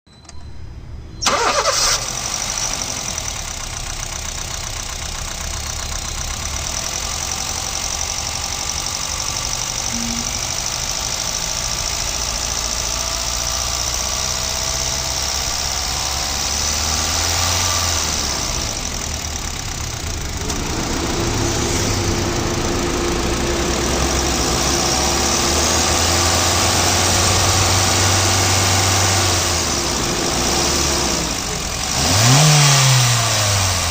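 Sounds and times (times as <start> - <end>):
car engine idling: 1.2 - 33.9.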